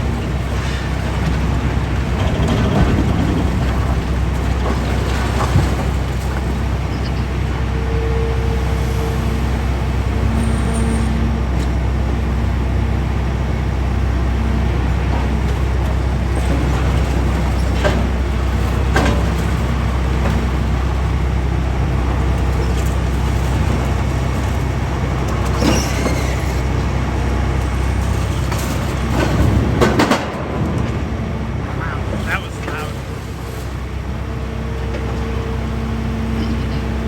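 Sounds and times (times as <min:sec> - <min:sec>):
heavy diesel machinery droning: 0:00.0 - 0:37.0.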